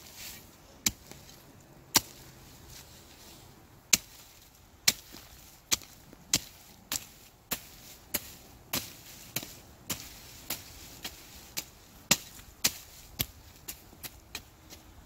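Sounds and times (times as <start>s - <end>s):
shovel chopping into soil: 0.0s - 2.3s, 3.9s - 14.5s.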